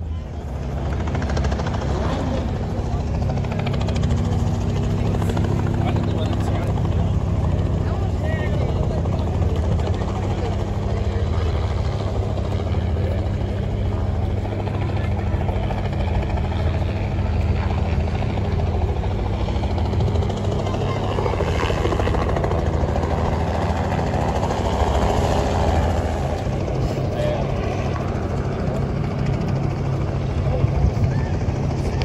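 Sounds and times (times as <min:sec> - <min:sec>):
helicopter rotor and engine rumble: 0:00.0 - 0:32.0.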